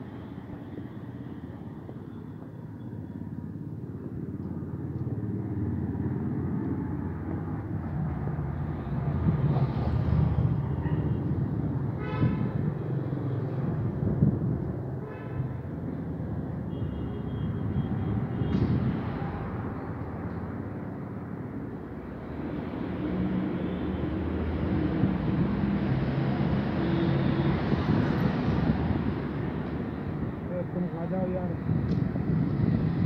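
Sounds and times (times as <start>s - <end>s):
passing vehicles rumbling: 0.0s - 33.0s.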